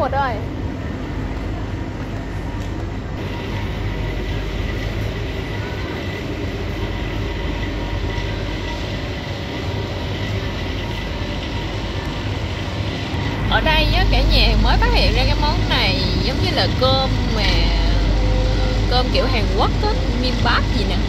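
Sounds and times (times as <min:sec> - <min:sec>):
freezer cases humming: 0:03.0 - 0:21.0.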